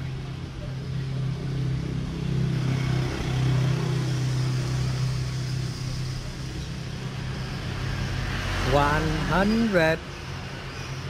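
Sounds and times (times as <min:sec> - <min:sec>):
traffic noise: 0:00.0 - 0:11.0
vehicle engine droning: 0:00.0 - 0:11.0.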